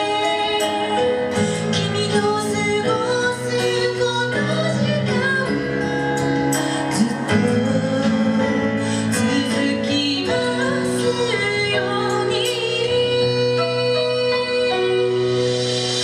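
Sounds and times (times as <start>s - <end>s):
woman singing: 0.0s - 15.6s
live pop song: 0.0s - 16.0s.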